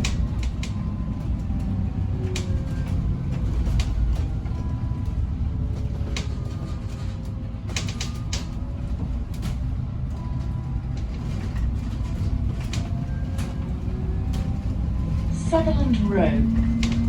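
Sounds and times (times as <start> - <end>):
bodywork clicks and creaks: 0.0 - 17.0
bus interior rumble: 0.0 - 17.0.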